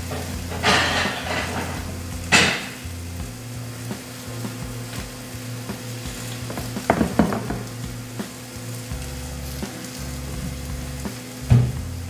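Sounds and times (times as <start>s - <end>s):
sharp crackles: 0.0s - 12.0s
steak sizzling in a pan: 0.0s - 12.0s.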